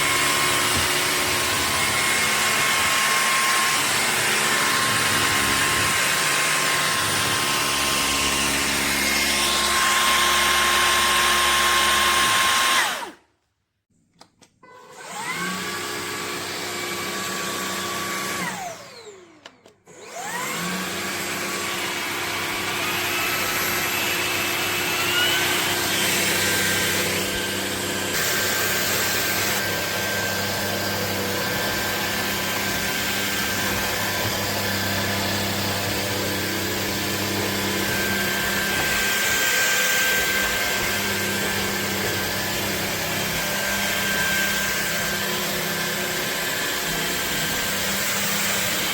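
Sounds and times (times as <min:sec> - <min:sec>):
vacuum cleaner motor whining: 0:00.0 - 0:13.2, 0:14.6 - 0:48.9.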